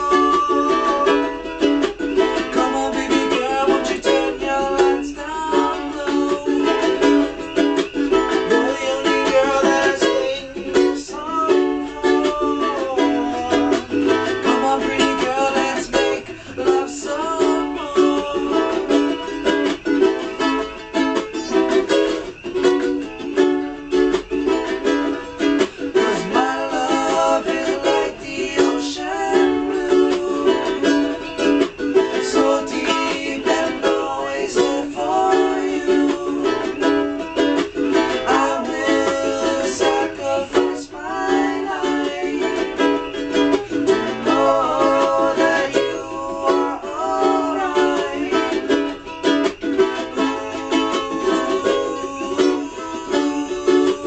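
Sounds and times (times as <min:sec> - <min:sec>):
man singing: 0:00.0 - 0:19.6, 0:25.9 - 0:37.3, 0:37.9 - 0:49.0, 0:49.6 - 0:54.0
ukuleles strumming: 0:00.0 - 0:54.0.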